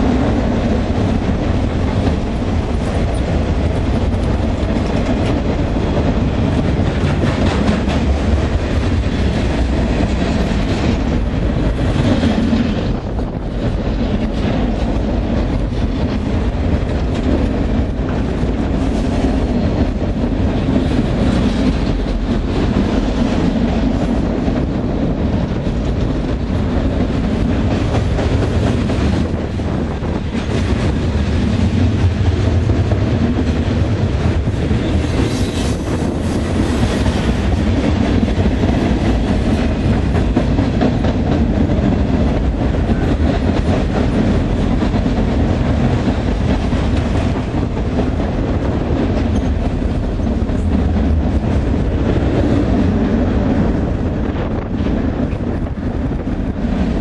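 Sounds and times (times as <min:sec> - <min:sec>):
freight train cars rumbling: 0:00.0 - 0:57.0.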